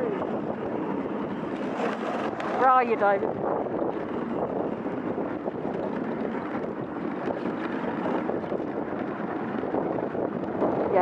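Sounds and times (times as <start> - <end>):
sled runners scraping on snow: 0.0 - 11.0
wind buffeting microphone: 0.0 - 11.0.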